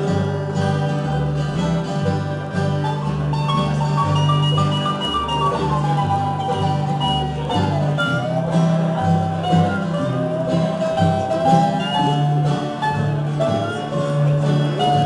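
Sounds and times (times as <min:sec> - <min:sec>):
bluegrass band playing: 0:00.0 - 0:15.0
gliding dobro lead line: 0:00.0 - 0:15.0.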